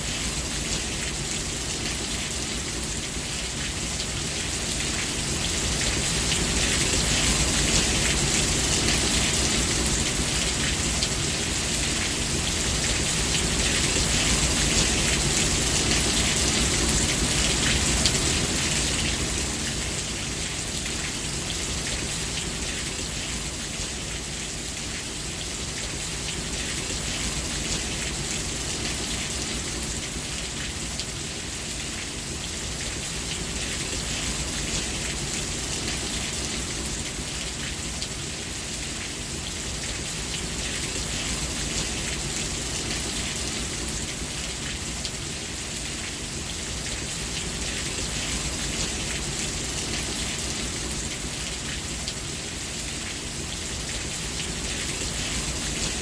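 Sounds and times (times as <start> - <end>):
heavy rain on surfaces: 0.0 - 56.0.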